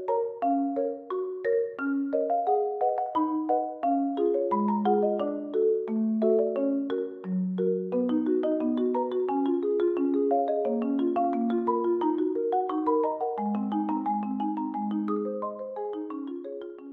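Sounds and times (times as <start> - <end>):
marimba-like mallet melody: 0.0 - 16.9.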